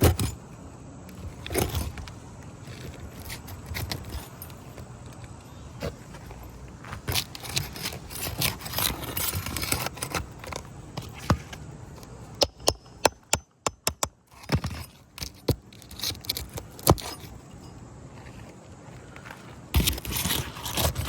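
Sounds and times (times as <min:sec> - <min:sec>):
shingles scraping and rustling: 0:01.2 - 0:05.1, 0:05.7 - 0:12.0, 0:14.3 - 0:21.0.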